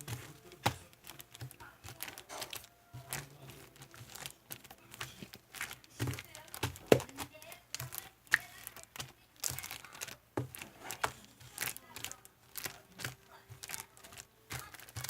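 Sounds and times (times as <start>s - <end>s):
slime squished by hand: 0.0s - 15.0s.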